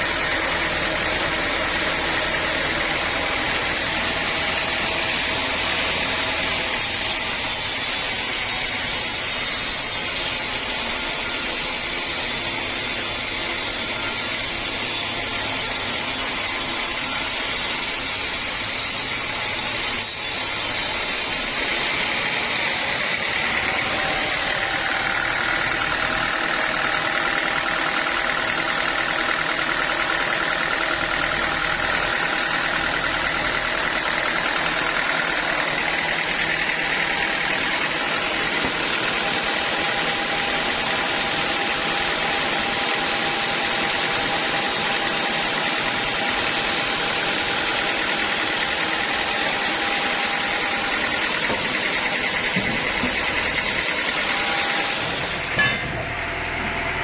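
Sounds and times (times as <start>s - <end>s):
sawmill machinery drone: 0.0s - 57.0s.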